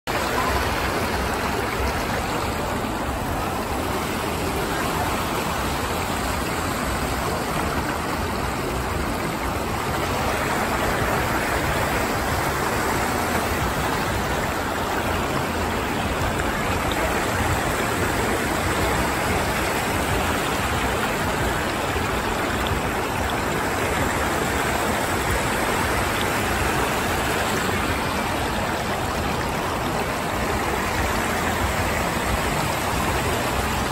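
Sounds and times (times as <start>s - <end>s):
water rushing down a drain: 0.1s - 33.9s.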